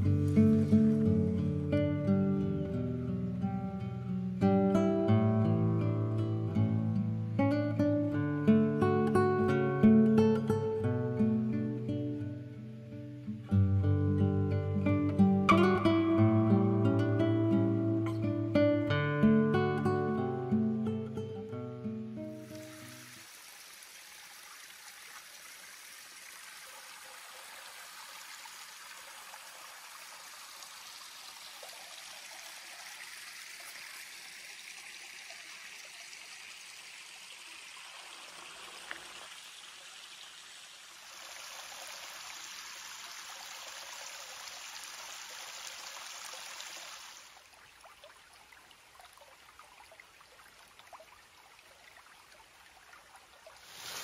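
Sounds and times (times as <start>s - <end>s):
stream trickling over stones: 0.0s - 12.4s, 22.2s - 54.0s.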